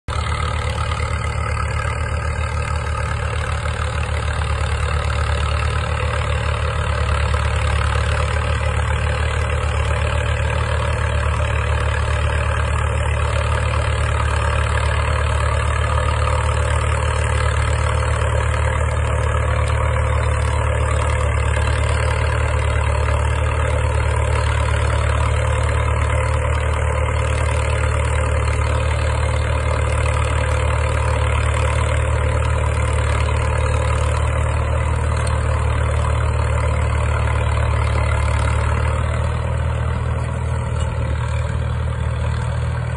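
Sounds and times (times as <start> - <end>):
tractor engine running under load: 0.1 - 42.9.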